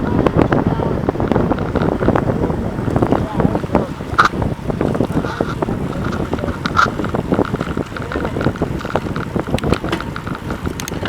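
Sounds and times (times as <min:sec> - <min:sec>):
bicycle riding noise: 0:00.0 - 0:11.0
wind buffeting microphone: 0:00.0 - 0:11.0.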